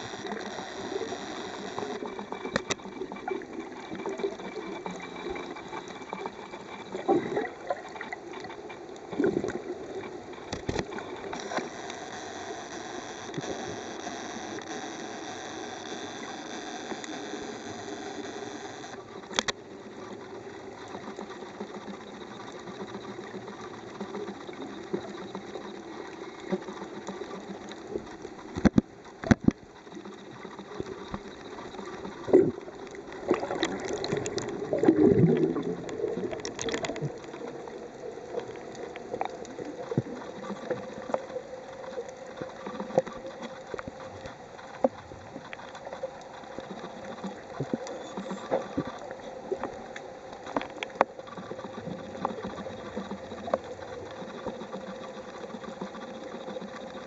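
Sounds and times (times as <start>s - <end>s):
muffled underwater noise: 0.0s - 57.0s.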